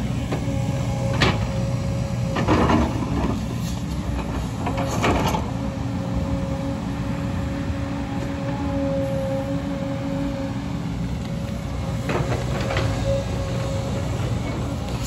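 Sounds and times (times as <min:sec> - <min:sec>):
diesel engine under load: 0:00.0 - 0:15.0.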